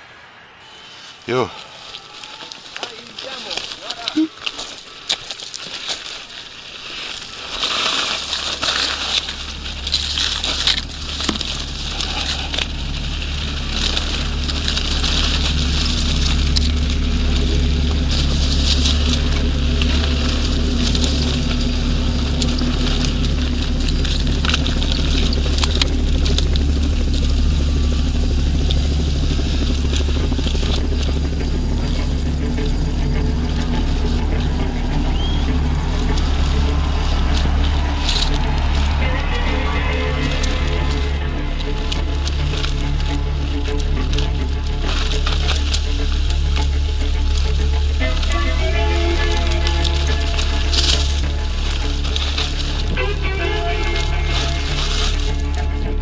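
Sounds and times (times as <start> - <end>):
steady low rumble: 0.0 - 56.0
bike tyres crunching over gravel: 0.6 - 56.0.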